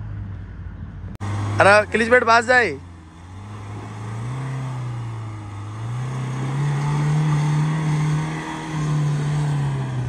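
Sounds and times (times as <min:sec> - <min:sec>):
vehicle engine revving: 0:01.2 - 0:10.0.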